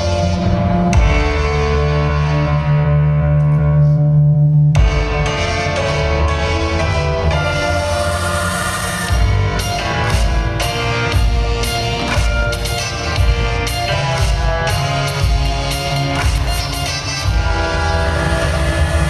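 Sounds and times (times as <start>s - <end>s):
guitar: 0.0s - 19.0s
heavy bass: 0.0s - 19.0s.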